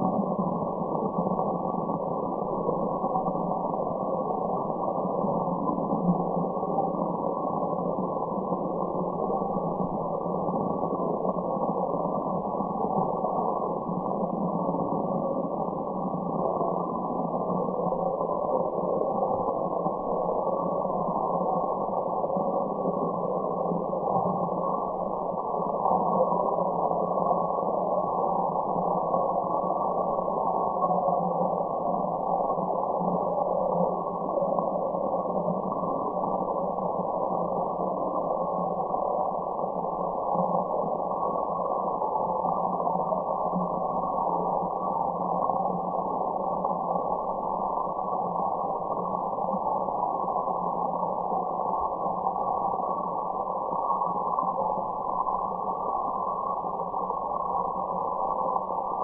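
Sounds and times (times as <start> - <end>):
muffled white noise hiss: 0.0 - 59.0.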